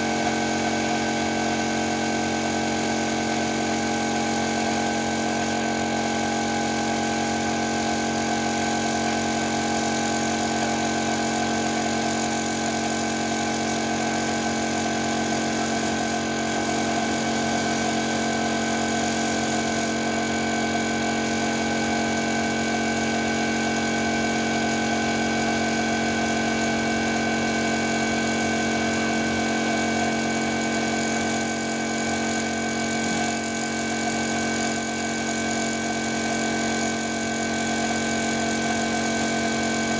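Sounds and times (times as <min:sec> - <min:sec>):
air compressor motor humming: 0:00.0 - 0:39.9.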